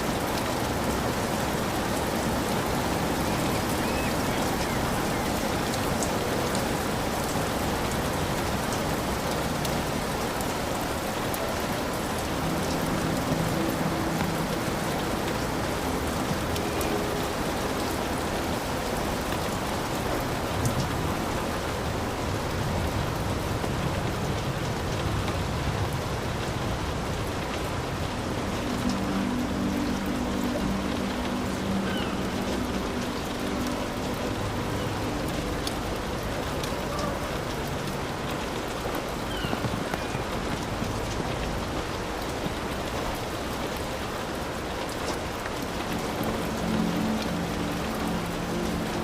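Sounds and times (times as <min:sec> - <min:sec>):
heavy rain on a hut: 0:00.0 - 0:49.0.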